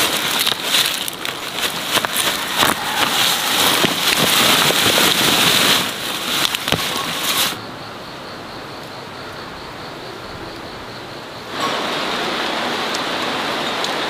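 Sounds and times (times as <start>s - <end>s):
soil and stalks crackling: 0.0s - 7.8s, 9.6s - 14.0s
steady hiss: 0.0s - 14.0s.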